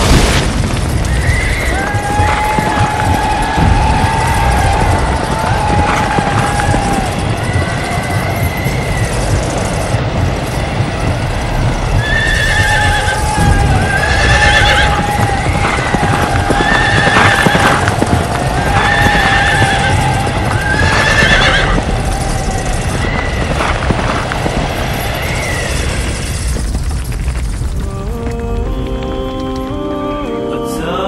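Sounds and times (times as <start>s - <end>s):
galloping hooves rumbling: 0.0s - 30.6s
horses neighing: 1.0s - 29.7s.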